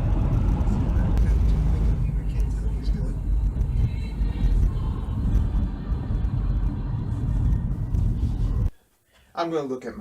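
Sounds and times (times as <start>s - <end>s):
car road and engine rumble: 0.0s - 8.7s.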